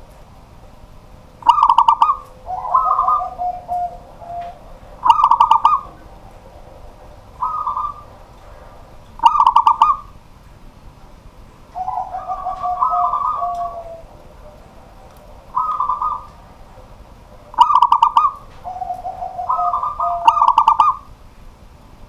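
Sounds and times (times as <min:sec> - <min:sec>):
dove cooing: 0:01.4 - 0:10.2, 0:11.7 - 0:21.2.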